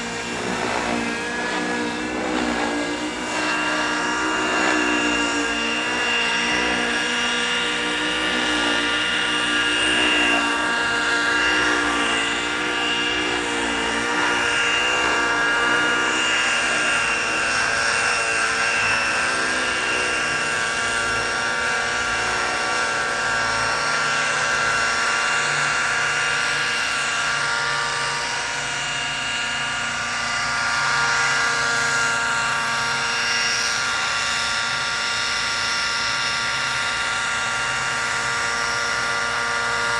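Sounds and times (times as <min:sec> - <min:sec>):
model helicopter engine and rotors: 0:00.0 - 0:39.9.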